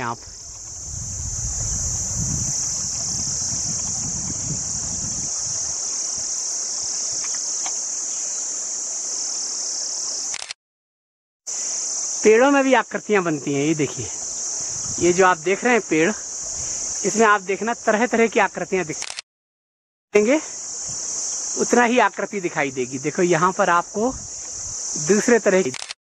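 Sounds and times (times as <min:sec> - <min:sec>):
insects buzzing: 0:00.0 - 0:10.6, 0:11.5 - 0:19.2, 0:20.2 - 0:26.0.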